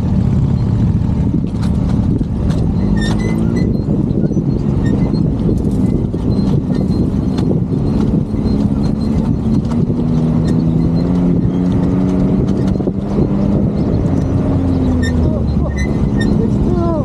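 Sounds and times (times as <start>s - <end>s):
motorcycle engine at low revs: 0.0s - 17.0s
wind rumble: 0.0s - 17.0s.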